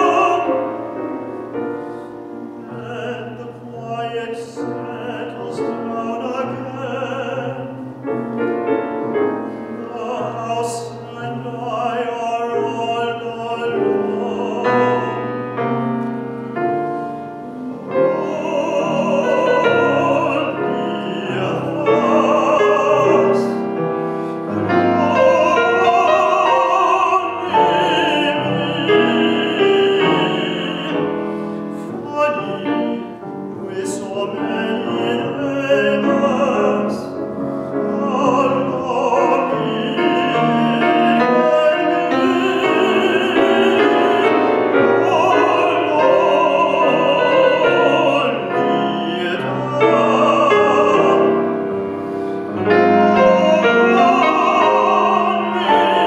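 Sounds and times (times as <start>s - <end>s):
operatic tenor singing: 0.0s - 56.0s
piano accompaniment: 0.0s - 56.0s.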